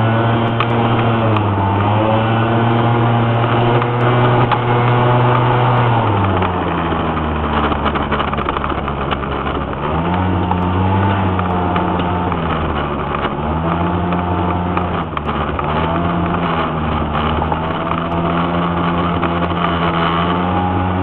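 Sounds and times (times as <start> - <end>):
scooter engine pulling uphill: 0.0 - 21.0.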